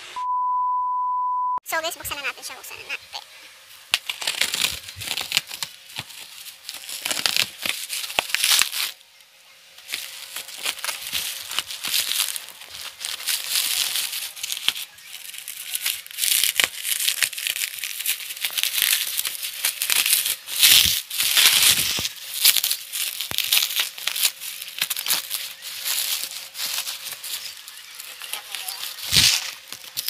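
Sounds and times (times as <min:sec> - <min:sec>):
bubble wrap crinkling: 0:03.6 - 0:30.0.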